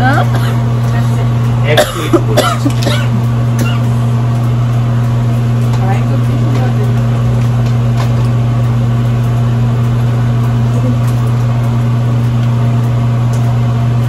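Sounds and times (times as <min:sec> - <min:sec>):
electrical motor hum: 0:00.0 - 0:14.0.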